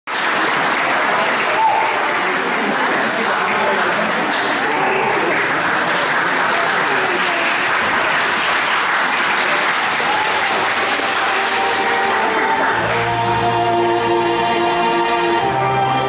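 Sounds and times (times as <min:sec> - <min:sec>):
people cheering: 0:00.1 - 0:13.3
audience clapping: 0:00.1 - 0:13.5.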